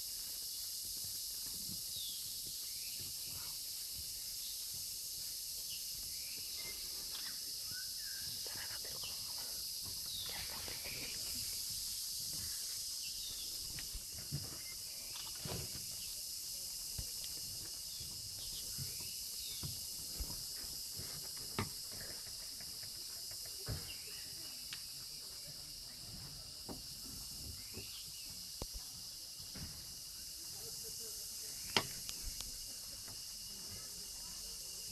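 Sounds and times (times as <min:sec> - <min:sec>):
insects chorusing: 0:00.0 - 0:34.9.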